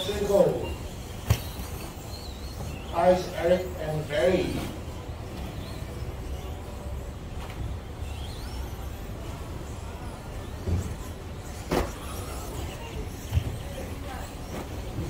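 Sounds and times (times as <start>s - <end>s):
rc truck motor whines: 0.0s - 15.0s.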